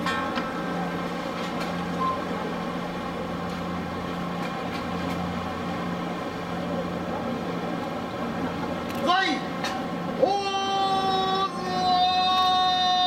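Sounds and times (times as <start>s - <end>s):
boat engines droning: 0.0s - 13.0s.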